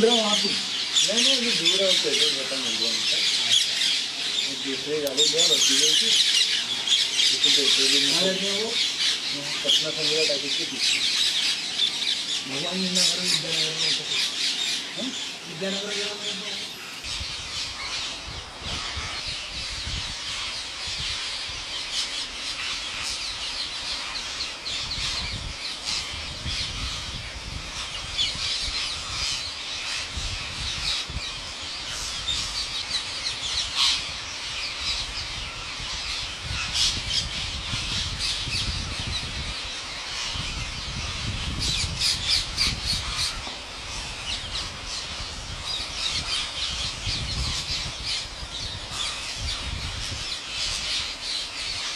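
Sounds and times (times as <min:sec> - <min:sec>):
parakeet flock screeching: 0:00.0 - 0:51.9.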